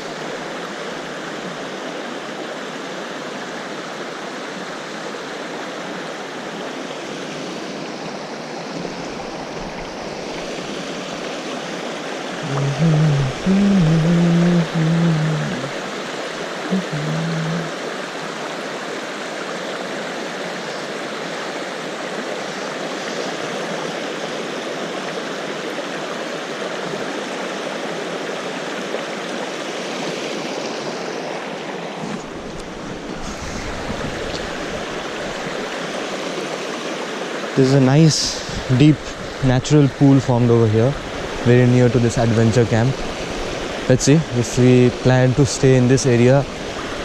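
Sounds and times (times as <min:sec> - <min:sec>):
stream water rushing: 0:00.0 - 0:47.0.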